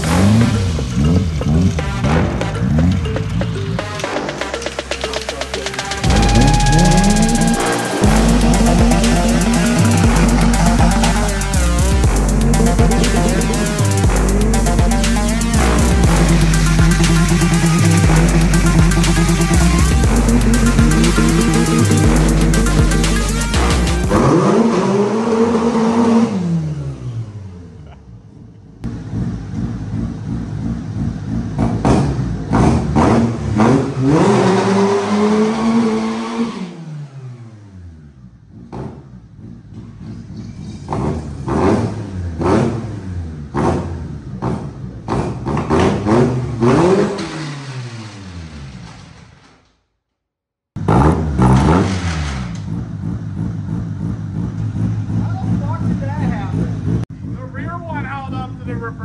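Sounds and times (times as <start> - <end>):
car engine revving: 0.0 - 49.5, 50.8 - 59.0.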